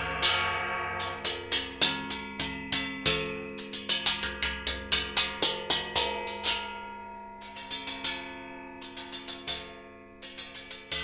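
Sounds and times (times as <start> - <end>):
gongs struck with mallets: 0.0 - 11.0.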